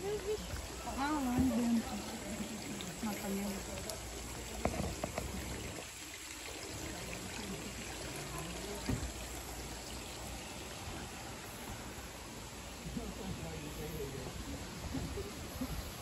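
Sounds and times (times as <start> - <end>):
running water splashing: 0.0 - 16.0.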